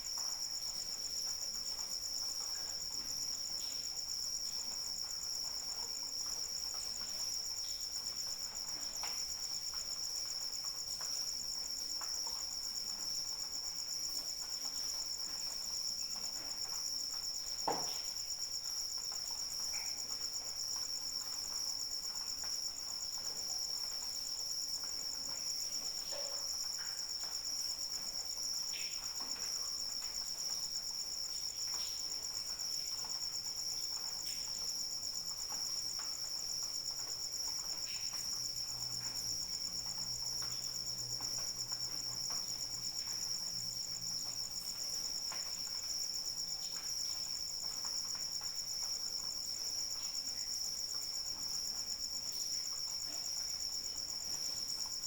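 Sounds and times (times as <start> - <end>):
crickets trilling: 0.0 - 55.0
light rain dripping: 0.0 - 55.0.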